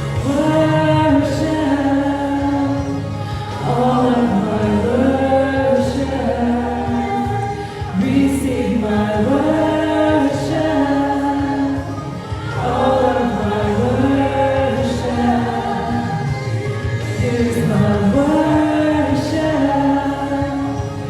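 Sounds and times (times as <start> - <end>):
group singing worship song: 0.0 - 21.0
steady low backing: 0.0 - 21.0.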